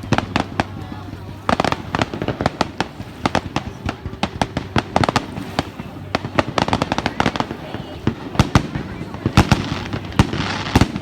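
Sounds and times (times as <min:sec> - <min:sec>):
fireworks popping and crackling: 0:00.0 - 0:11.0.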